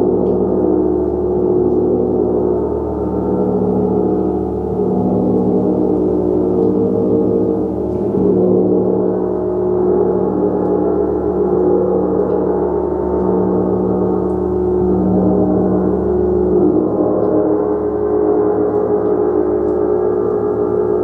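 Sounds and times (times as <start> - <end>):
gong ringing continuously: 0.0 - 21.0.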